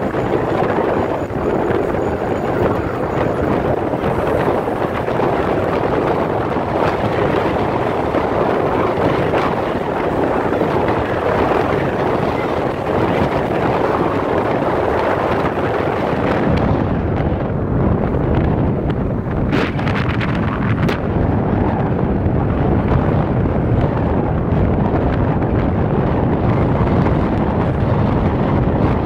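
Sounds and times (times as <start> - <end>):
road and wind noise from car: 0.0 - 29.0.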